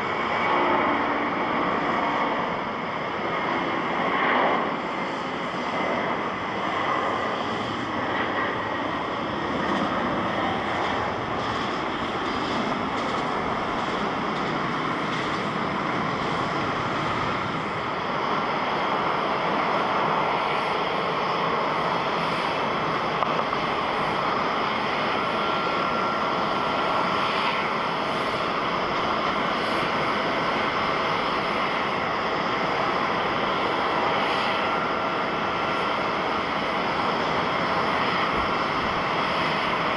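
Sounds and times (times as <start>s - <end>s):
jet engines running: 0.0s - 39.9s
thin steady whine: 0.0s - 39.9s.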